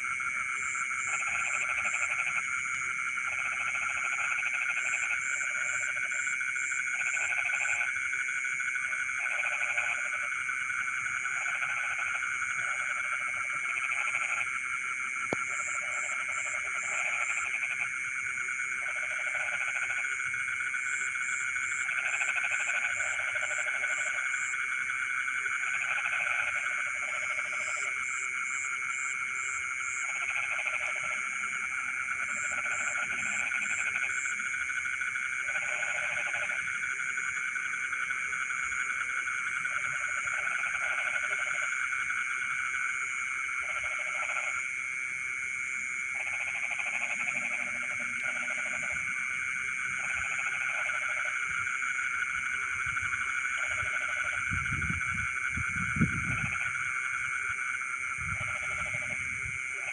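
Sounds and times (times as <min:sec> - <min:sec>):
frogs trilling: 0:00.0 - 0:59.9
low frog croaking: 0:00.0 - 0:59.9.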